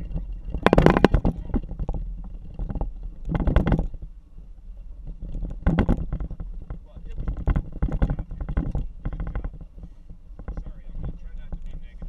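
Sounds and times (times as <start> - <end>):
low rumble of road noise: 0.0 - 12.0.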